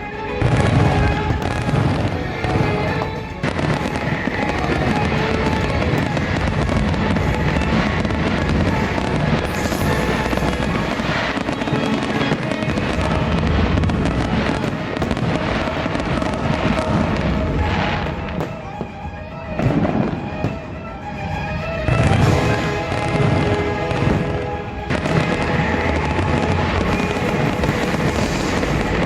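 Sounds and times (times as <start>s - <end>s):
music soundtrack: 0.0s - 29.0s
fireworks bangs: 0.4s - 20.8s, 21.5s - 29.0s.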